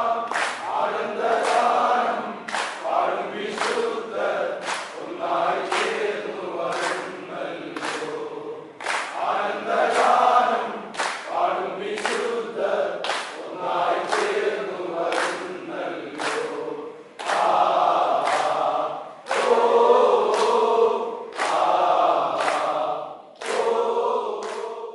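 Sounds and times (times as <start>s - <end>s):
crew chanting together: 0.0s - 24.9s.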